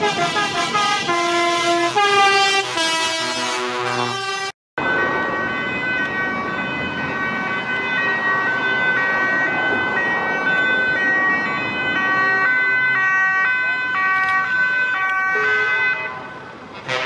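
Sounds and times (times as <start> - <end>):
truck engines running: 0.0 - 17.0
police two-tone siren: 1.2 - 16.6.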